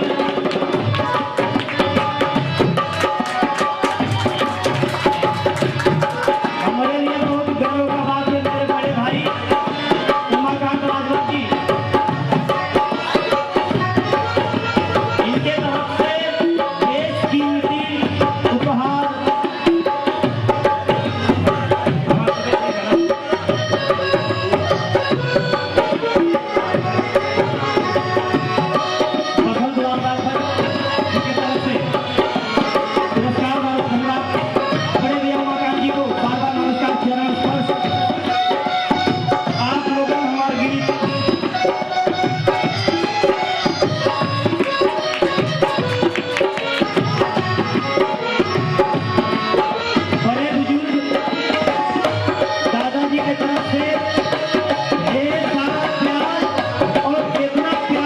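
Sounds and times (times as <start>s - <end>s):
tabla rhythm: 0.0s - 58.0s.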